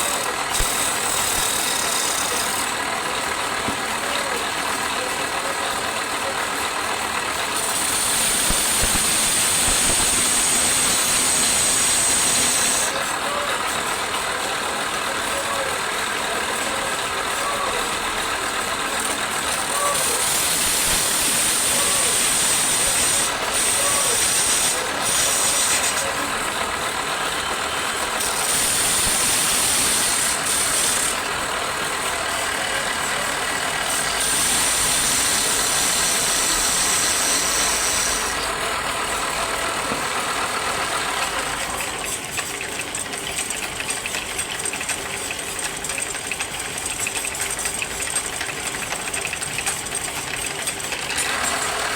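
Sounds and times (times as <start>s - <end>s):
tool scraping spinning wood: 0.0s - 4.0s, 6.8s - 15.1s, 15.7s - 51.9s
wood lathe running: 0.0s - 51.9s.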